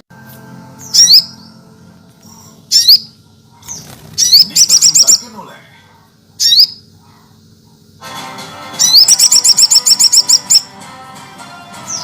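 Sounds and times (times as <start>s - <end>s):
sunbird singing: 0.6s - 8.0s, 8.6s - 10.8s, 11.7s - 12.0s.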